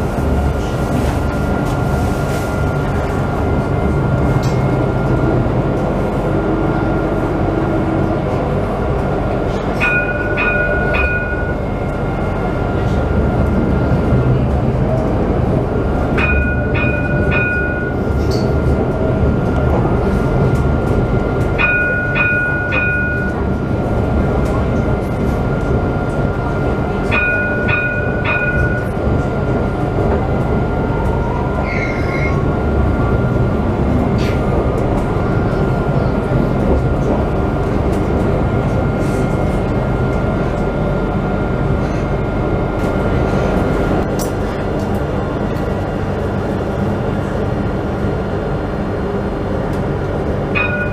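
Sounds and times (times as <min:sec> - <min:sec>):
tram wheels and motors rumbling: 0:00.0 - 0:50.9.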